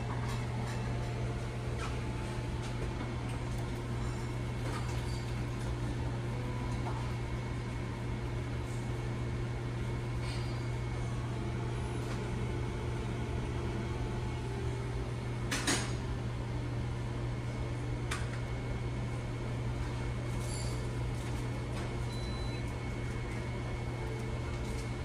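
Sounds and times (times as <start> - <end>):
pancake machine humming: 0.0 - 25.0.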